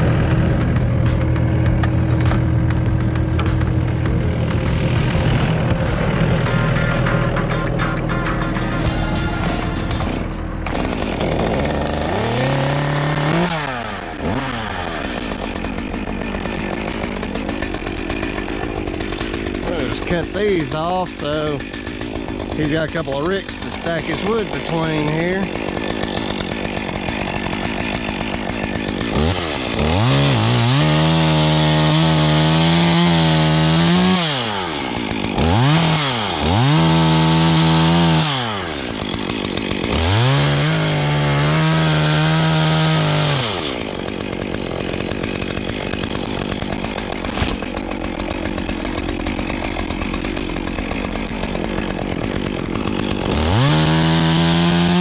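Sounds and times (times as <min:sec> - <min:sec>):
chainsaw idling: 0:00.0 - 0:55.0
chainsaw revving cutting wood: 0:00.0 - 0:55.0.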